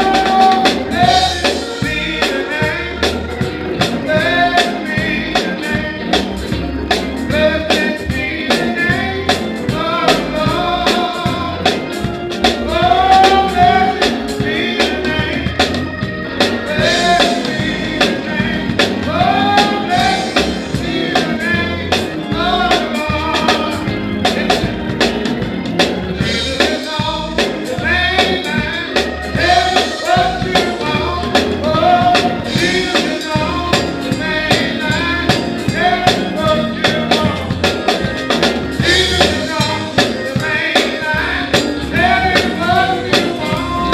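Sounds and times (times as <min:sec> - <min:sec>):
gospel music with singing: 0:00.0 - 0:43.9.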